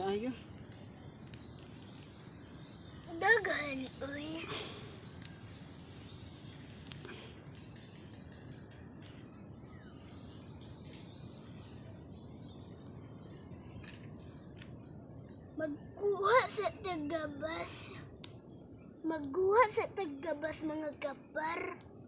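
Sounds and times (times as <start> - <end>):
birds chirping: 0.0 - 22.0
steady low hiss: 0.0 - 22.0.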